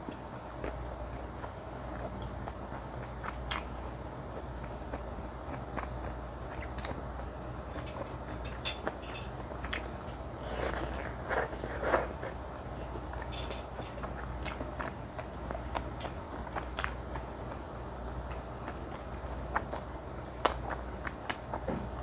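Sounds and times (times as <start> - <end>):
close chewing with wet mouth sounds: 0.1 - 21.6.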